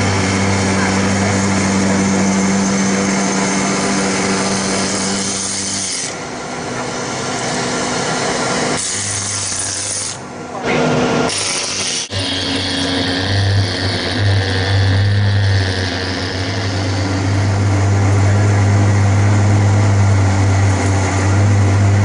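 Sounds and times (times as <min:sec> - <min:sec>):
low hum: 0:00.0 - 0:08.8, 0:12.1 - 0:22.0
air-driven tube cleaner: 0:00.0 - 0:22.0
industrial vacuum running: 0:00.0 - 0:22.0.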